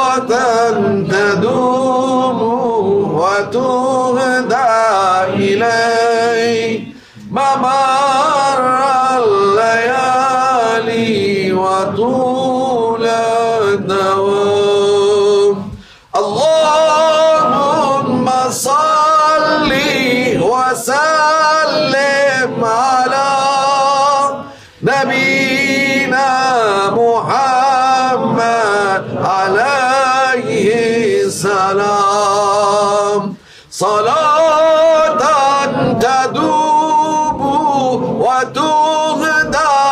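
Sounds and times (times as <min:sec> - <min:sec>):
man singing prayer solo: 0:00.0 - 0:39.9.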